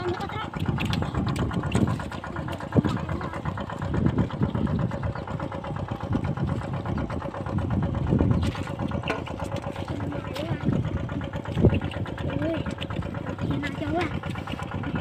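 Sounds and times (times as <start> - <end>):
small engine running steadily: 0.0 - 15.0.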